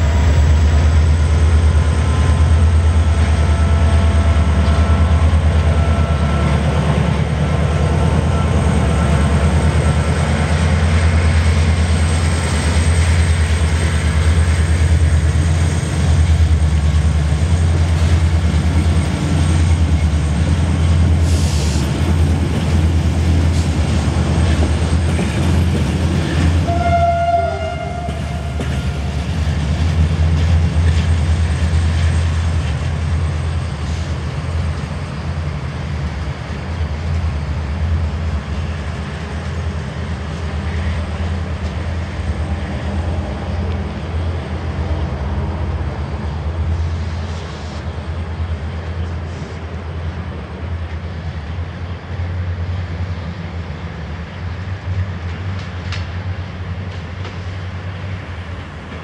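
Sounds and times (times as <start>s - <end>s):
locomotive engine drone: 0.0s - 59.0s
wheels rumbling on track: 0.0s - 59.0s.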